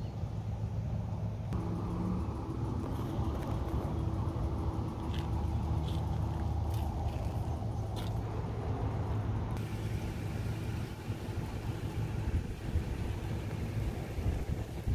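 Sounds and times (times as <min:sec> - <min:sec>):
vehicle engine humming: 0:00.0 - 0:14.9.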